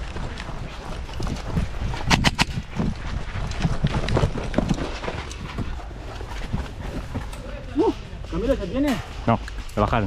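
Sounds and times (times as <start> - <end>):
wind buffeting microphone: 0.0 - 8.3
faint footsteps on grass: 0.0 - 10.0.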